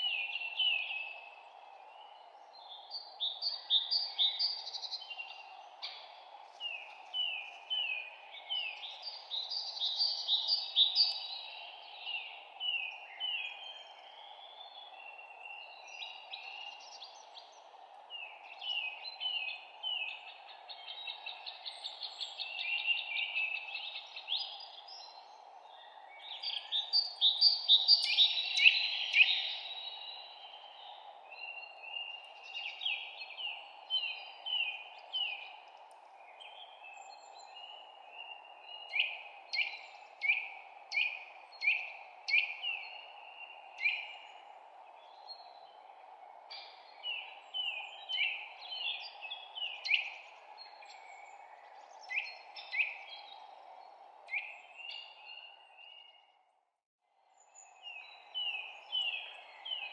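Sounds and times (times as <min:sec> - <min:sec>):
songbirds chirping and singing: 0:00.0 - 0:56.4, 0:57.4 - 0:59.9
low steady hiss: 0:00.0 - 0:56.5, 0:57.2 - 0:59.9.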